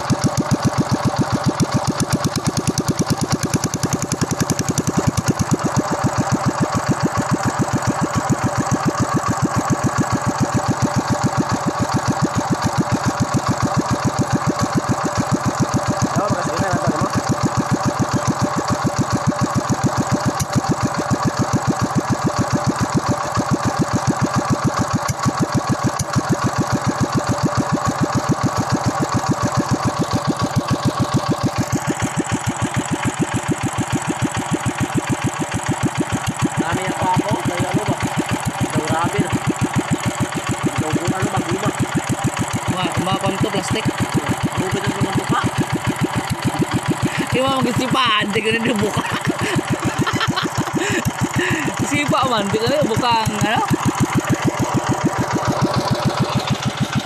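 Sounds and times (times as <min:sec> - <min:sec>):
small engine idling: 0:00.0 - 0:57.0.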